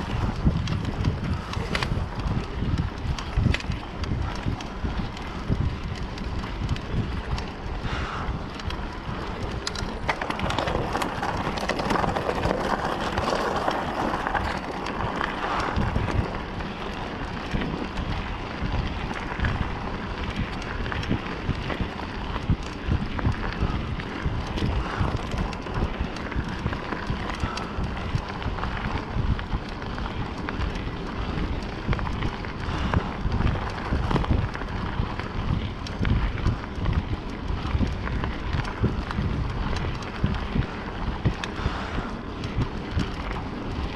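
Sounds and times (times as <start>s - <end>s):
bike rattles and knocks: 0.0s - 43.9s
tyres rolling on gravel trail: 0.0s - 43.9s
wind buffeting microphone: 0.0s - 43.9s.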